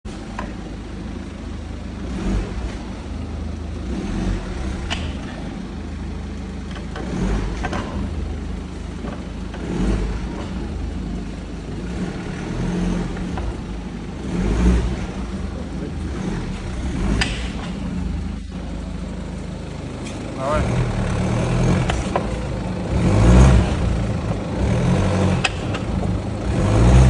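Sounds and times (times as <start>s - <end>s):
car road rumble: 0.1s - 27.0s.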